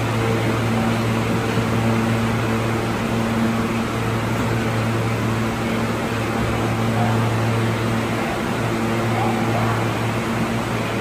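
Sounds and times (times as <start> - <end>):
low electrical drone: 0.0 - 11.0
ventilation hum: 0.0 - 11.0.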